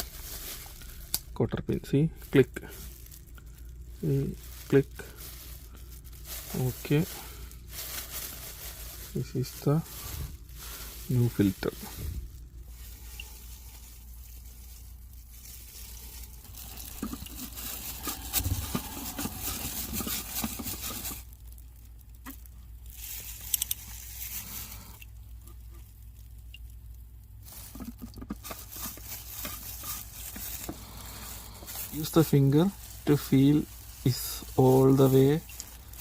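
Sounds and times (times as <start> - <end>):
low steady hum: 0.0 - 36.0
hands rustling and scraping parts: 4.2 - 21.3, 22.2 - 26.0, 27.4 - 36.0.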